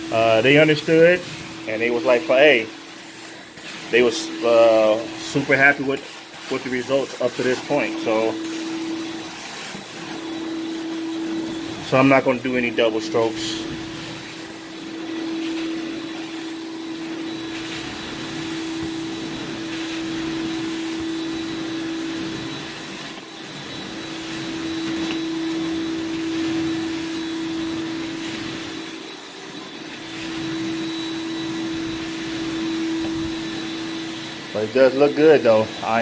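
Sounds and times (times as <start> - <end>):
carpet vacuum running: 0.0 - 36.0.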